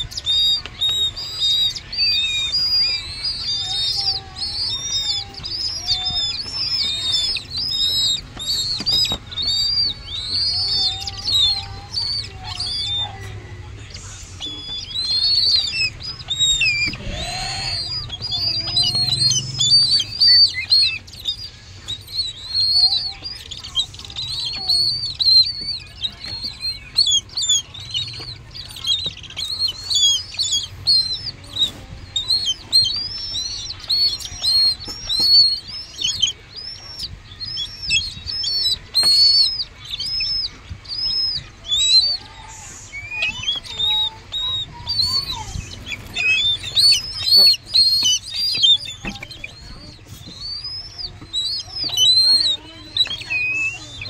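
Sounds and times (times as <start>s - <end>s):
raptor chick begging chirps: 0.0s - 54.0s.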